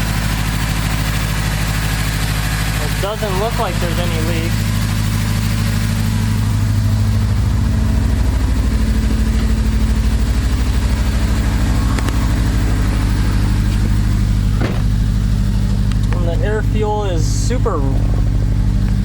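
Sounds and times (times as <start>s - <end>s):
car engine idling roughly: 0.0s - 19.0s.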